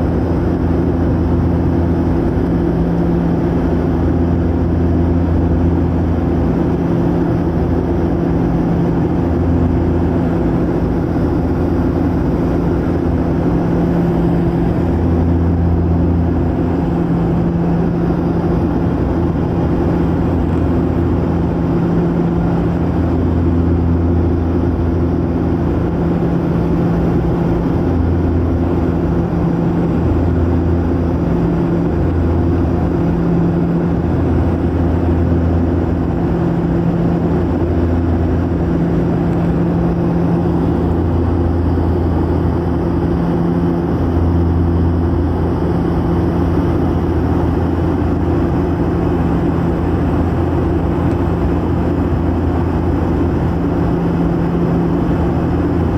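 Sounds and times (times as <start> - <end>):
propeller aircraft engine drone: 0.0 - 55.9.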